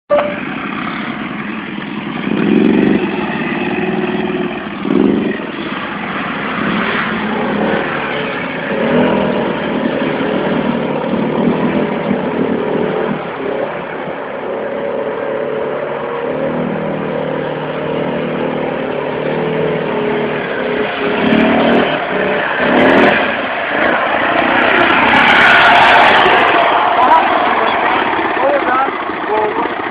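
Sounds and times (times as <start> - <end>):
atv engine revving: 0.1 - 29.9
churning through mud and water: 0.3 - 29.9.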